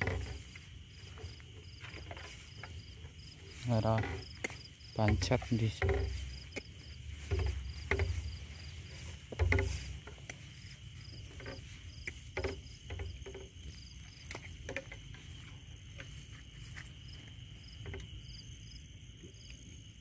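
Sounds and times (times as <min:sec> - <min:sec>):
dull thumps: 0:00.0 - 0:16.1
footsteps through grass: 0:00.0 - 0:17.8
cricket chirping: 0:00.0 - 0:20.0
insects buzzing: 0:00.0 - 0:20.0.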